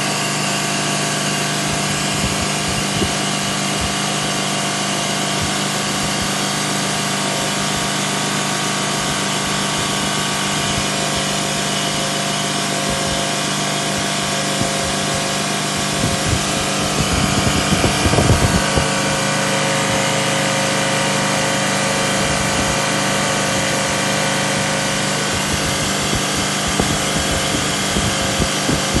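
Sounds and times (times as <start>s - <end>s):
washing machine motor humming: 0.0s - 29.0s.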